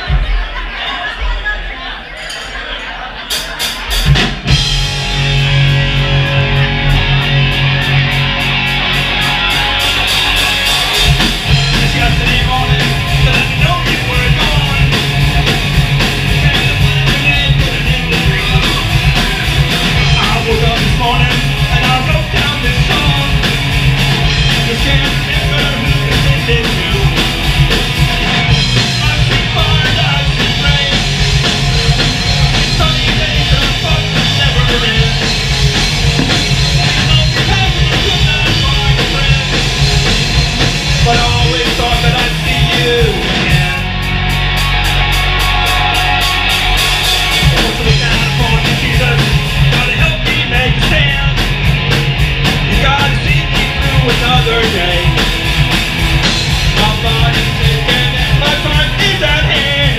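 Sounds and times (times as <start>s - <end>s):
live rock band playing: 2.5s - 59.9s.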